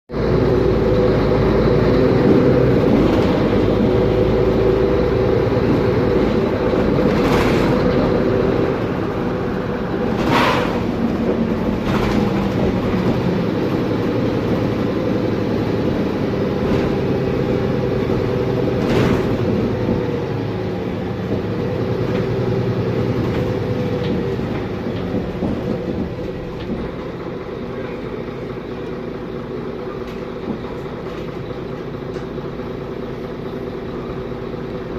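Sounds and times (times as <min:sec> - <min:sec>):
diesel bus engine running: 0:00.1 - 0:34.9.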